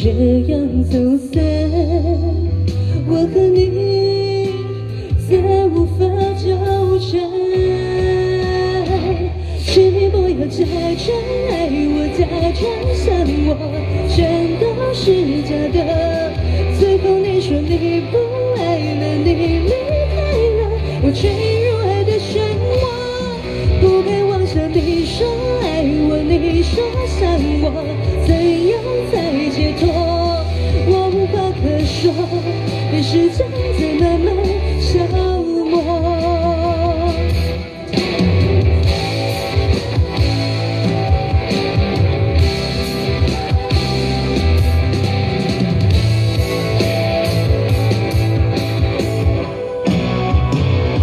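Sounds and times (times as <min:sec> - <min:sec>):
woman singing into microphone: 0:00.0 - 0:44.4
amplified backing music: 0:00.0 - 0:51.0.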